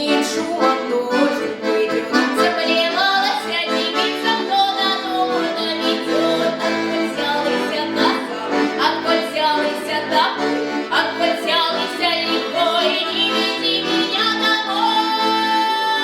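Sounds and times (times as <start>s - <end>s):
accordion music: 0.0s - 16.0s.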